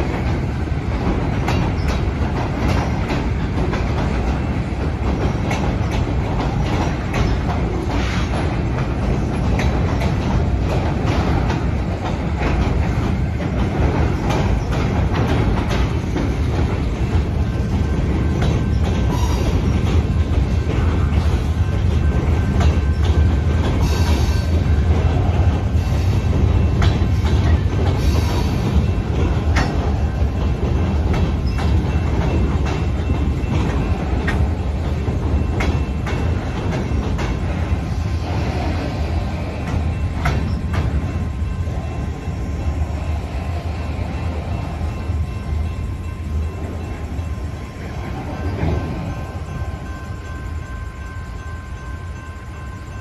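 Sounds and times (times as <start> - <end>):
freight train rumble: 0.0 - 53.0
train wheels clacking: 0.0 - 53.0.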